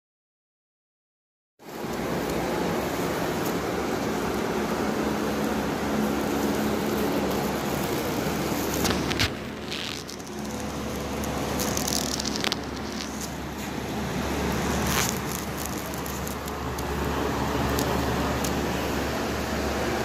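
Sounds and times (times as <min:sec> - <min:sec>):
crackles: 0:01.6 - 0:19.6
low mechanical hum: 0:01.6 - 0:20.0.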